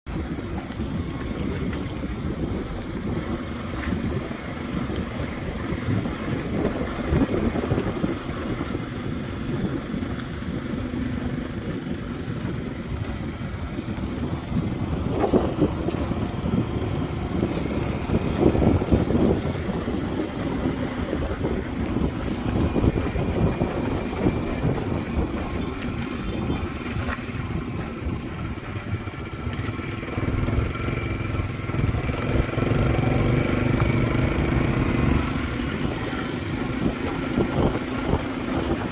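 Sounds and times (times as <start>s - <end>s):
motorbike engine hum: 0.1s - 38.9s
wind buffeting on microphone: 0.1s - 38.9s.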